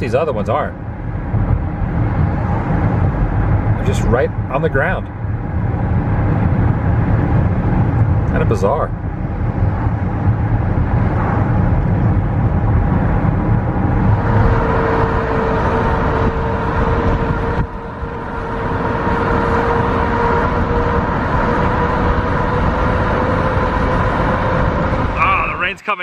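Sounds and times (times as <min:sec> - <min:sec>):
car tyres on wet road: 0:00.0 - 0:26.0
steady whine: 0:00.0 - 0:26.0.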